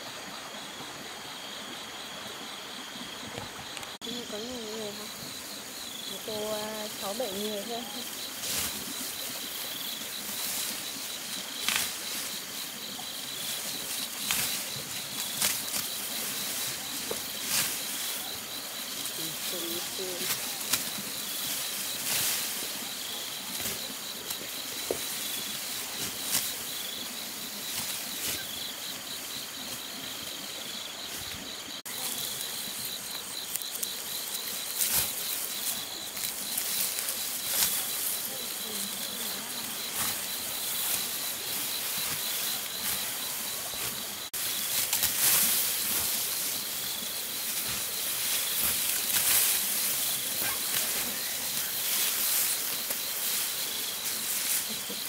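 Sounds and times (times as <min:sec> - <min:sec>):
insects chirring: 0:00.0 - 0:55.0
lower insect chirp: 0:00.0 - 0:55.0
rustling and brushing: 0:04.4 - 0:55.0.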